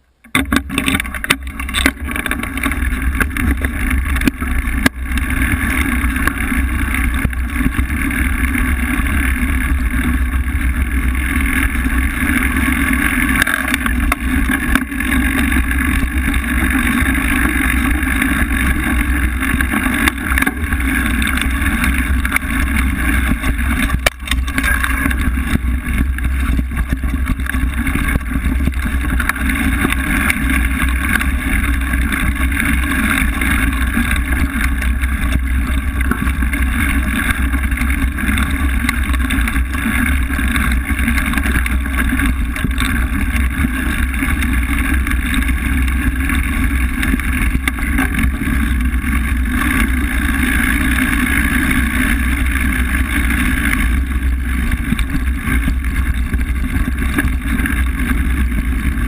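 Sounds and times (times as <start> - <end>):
bike tyre and frame rumble: 0.0 - 59.0.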